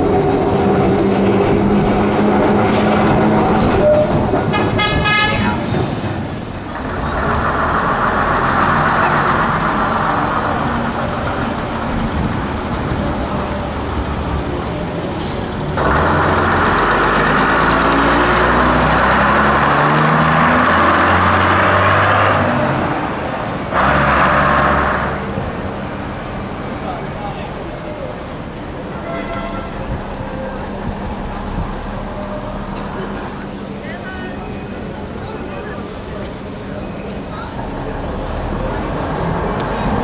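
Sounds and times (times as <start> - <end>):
bus engines running: 0.0 - 40.0.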